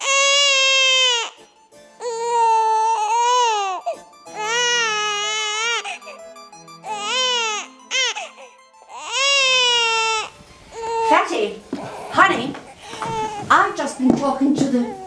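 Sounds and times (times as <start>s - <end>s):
infant crying: 0.0s - 1.4s, 2.0s - 13.6s, 14.6s - 15.0s.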